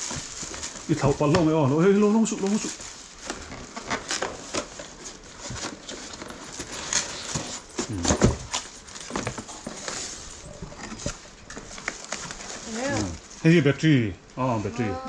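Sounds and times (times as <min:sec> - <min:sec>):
cardboard and plastic crinkling: 0:00.0 - 0:13.6.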